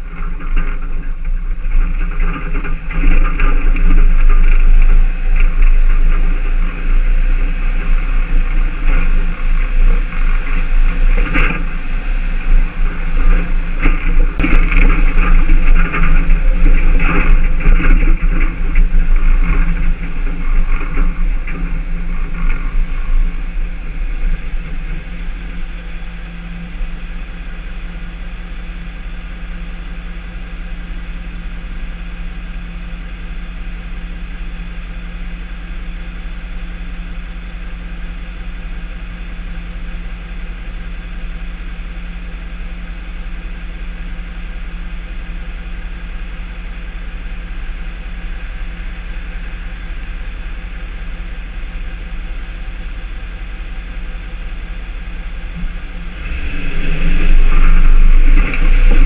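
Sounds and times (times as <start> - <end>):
truck engine idling: 0.0 - 59.0
truck engine slowing: 0.0 - 59.0.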